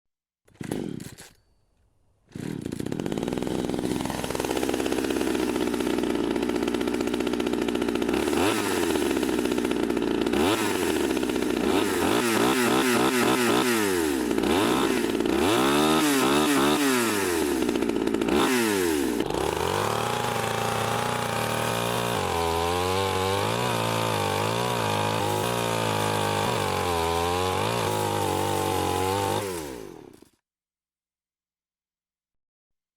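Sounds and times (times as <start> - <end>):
chainsaw revving: 0.5 - 1.3, 2.3 - 30.4.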